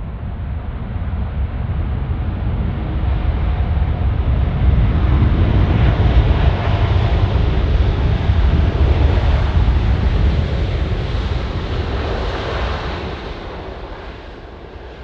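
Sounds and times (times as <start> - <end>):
jet engines in reverse thrust: 0.0 - 15.0.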